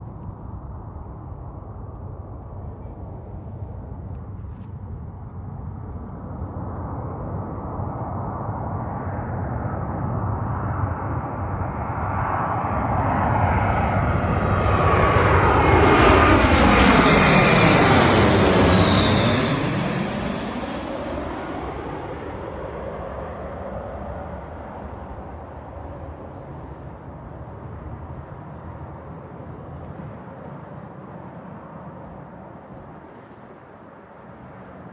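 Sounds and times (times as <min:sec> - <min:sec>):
jet engines passing overhead: 0:00.0 - 0:34.9.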